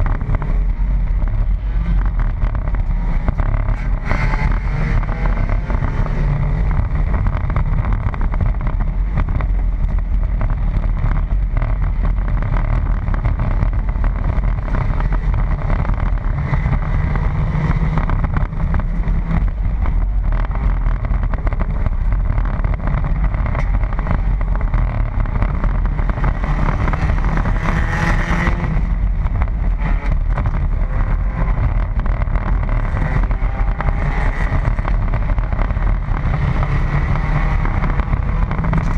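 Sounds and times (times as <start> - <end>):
race car engine rumbling: 0.0 - 38.9
road and wind noise: 0.0 - 38.9.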